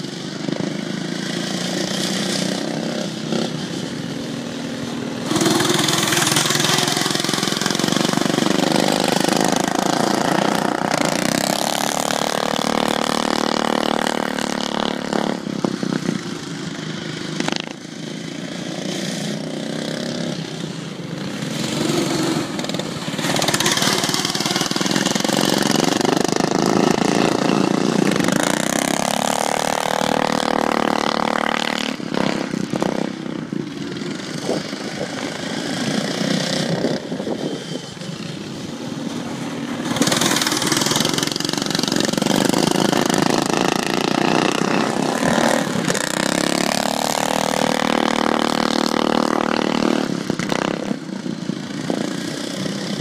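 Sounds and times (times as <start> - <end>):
lawn mower engines racing past: 0.0 - 53.0.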